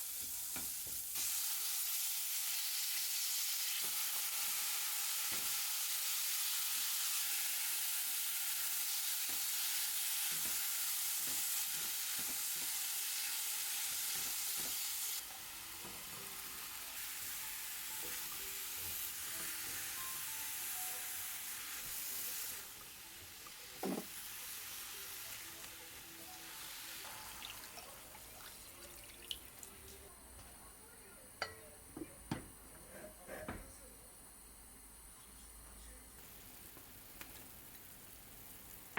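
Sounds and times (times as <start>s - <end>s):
food sizzling in a pan: 0.0s - 30.0s, 36.2s - 38.9s.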